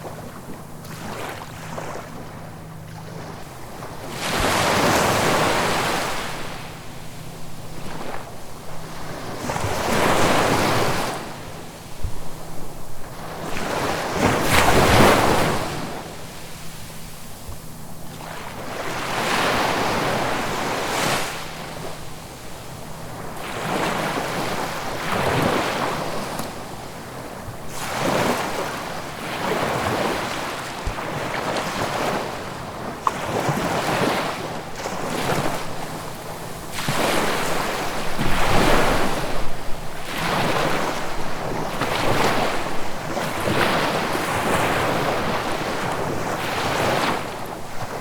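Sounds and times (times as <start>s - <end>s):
ocean waves breaking on shore: 0.0s - 48.0s.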